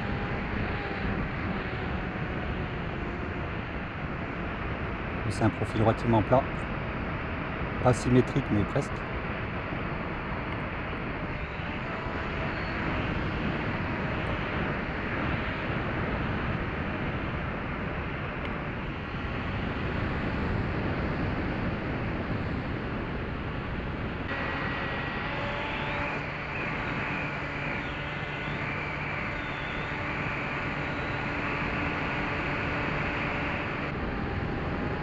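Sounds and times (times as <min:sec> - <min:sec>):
electric motor whine: 0:00.0 - 0:05.7, 0:09.4 - 0:21.2, 0:24.2 - 0:35.0.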